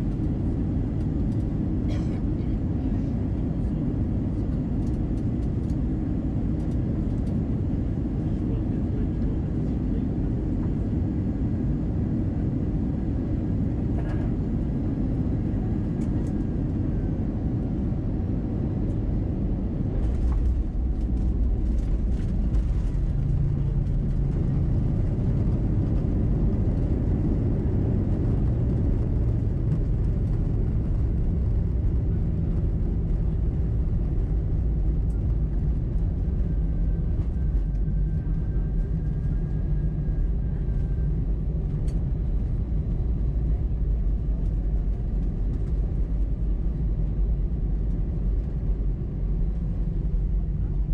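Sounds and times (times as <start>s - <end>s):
aircraft engines and airflow rumble: 0.0s - 50.9s.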